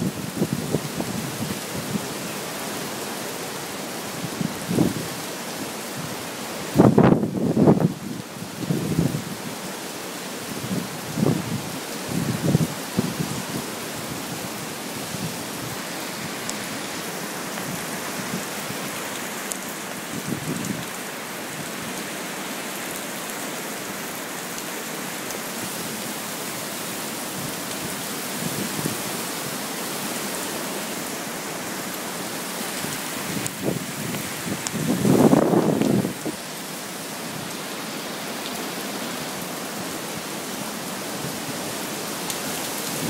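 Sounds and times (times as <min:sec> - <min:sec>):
heavy rain pouring: 0:00.0 - 0:43.0
low gusts of wind: 0:00.0 - 0:43.0.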